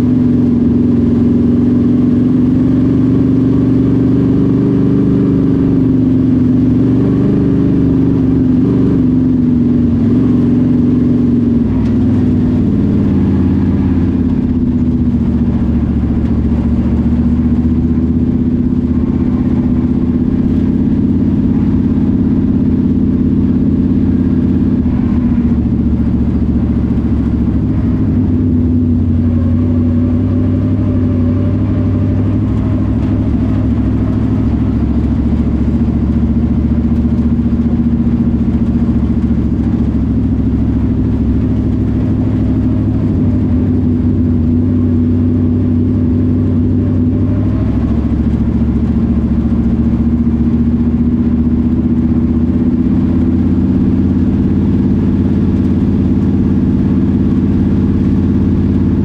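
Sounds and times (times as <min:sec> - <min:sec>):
race car engine at low revs: 0:00.0 - 0:59.0.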